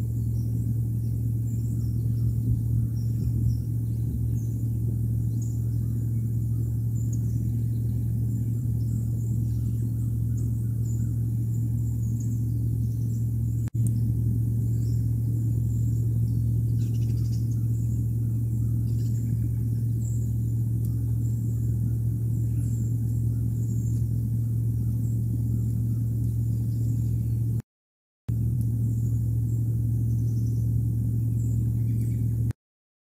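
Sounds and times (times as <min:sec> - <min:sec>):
low hum: 0:00.0 - 0:27.6, 0:28.3 - 0:32.6.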